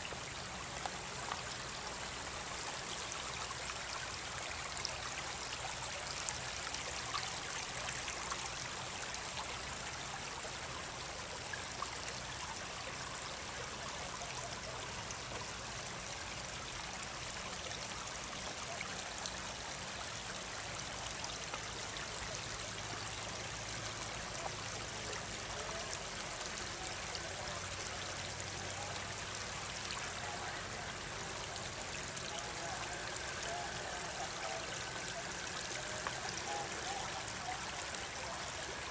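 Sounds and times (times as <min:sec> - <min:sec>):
creek trickling over rocks: 0:00.0 - 0:38.9.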